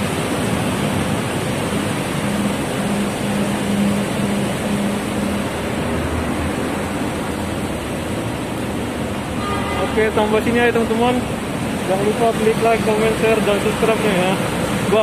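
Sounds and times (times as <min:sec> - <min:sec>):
city traffic roar: 0:00.0 - 0:15.0
low engine hum: 0:00.0 - 0:15.0.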